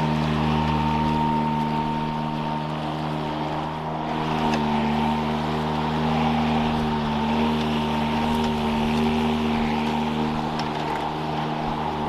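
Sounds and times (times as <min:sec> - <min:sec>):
lawn mower cutting grass: 0:00.0 - 0:12.0.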